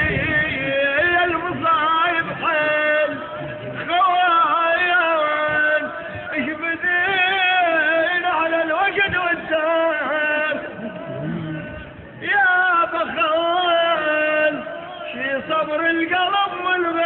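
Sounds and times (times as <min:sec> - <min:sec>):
man chanting poetry: 0:00.0 - 0:17.0.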